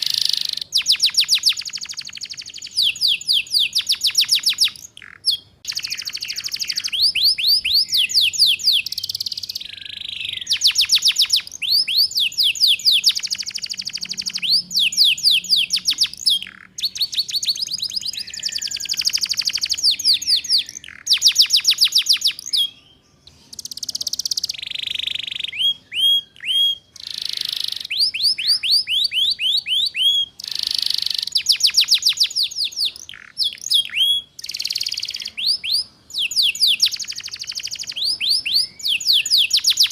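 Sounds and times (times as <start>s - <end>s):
canary trilling song: 0.0s - 39.9s.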